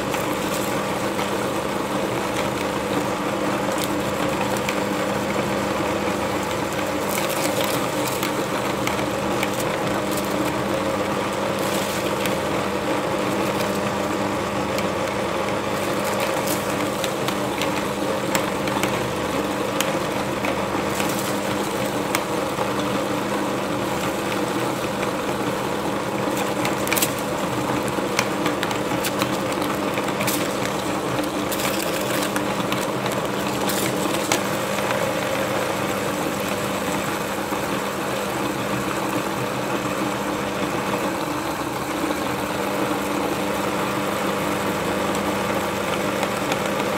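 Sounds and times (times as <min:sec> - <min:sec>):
meat grinder humming: 0:00.0 - 0:46.9.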